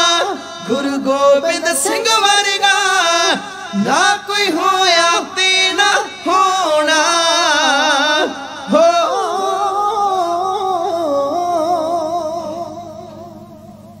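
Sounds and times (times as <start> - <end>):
men singing: 0.0 - 13.1.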